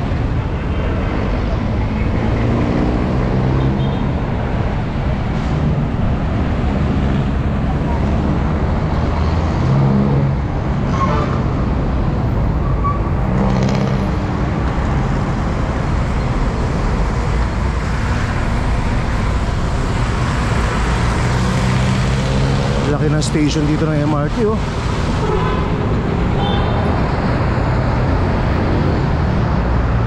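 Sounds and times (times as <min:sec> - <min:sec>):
car and motorcycle engines: 0:00.0 - 0:30.0
tyre and road noise: 0:00.0 - 0:30.0.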